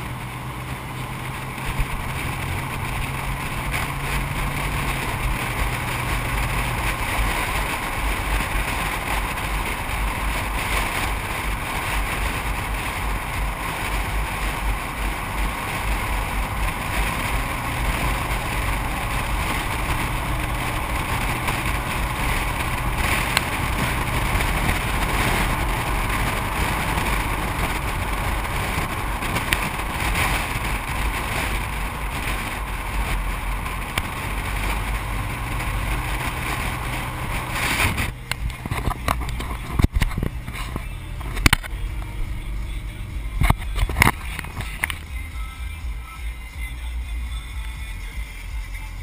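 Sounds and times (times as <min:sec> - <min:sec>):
wind rush: 0:00.0 - 0:44.9
tyre noise on road: 0:00.0 - 0:49.0.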